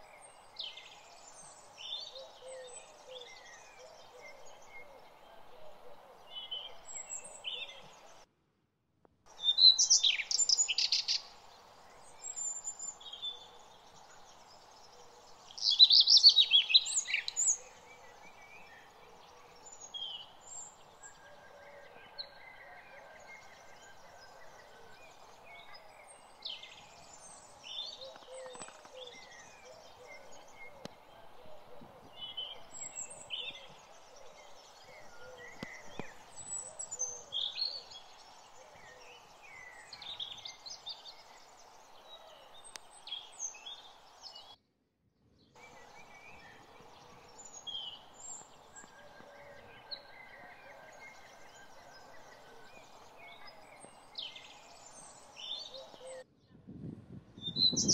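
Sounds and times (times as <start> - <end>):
small birds chirping: 0.0 - 8.2, 9.3 - 44.6, 45.6 - 56.2, 57.4 - 57.9.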